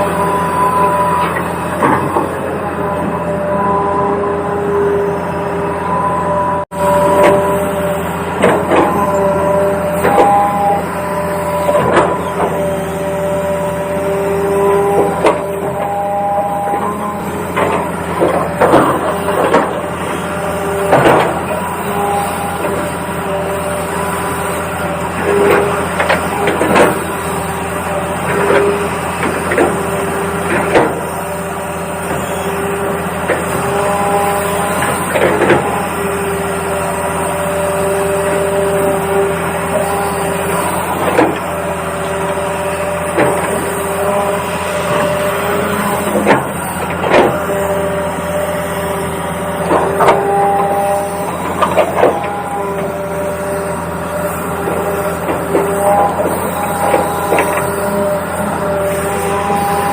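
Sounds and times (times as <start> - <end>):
small electric motors whining: 0.0 - 59.9.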